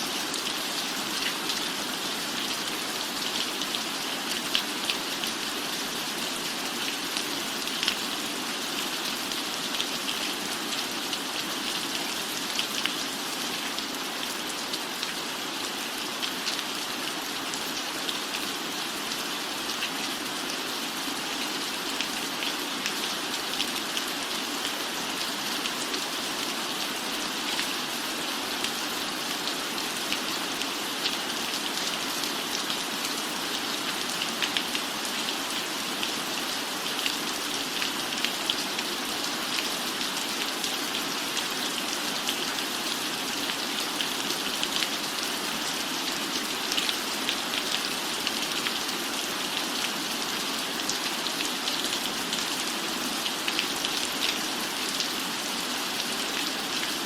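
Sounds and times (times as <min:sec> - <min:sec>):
rain on a roof: 0:00.0 - 0:57.0.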